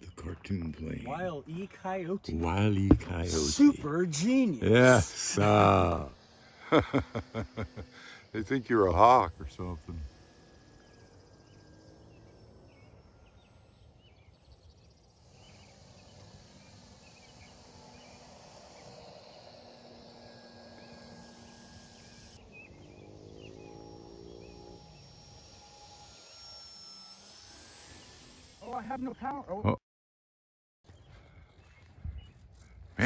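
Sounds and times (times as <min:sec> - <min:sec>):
model airplane motor whine: 0:01.2 - 0:29.6.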